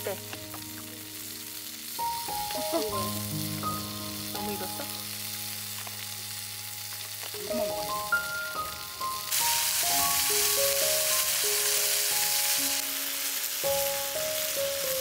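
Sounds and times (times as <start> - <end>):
background music: 0.0 - 15.0
skewers sizzling in a pan: 0.0 - 15.0.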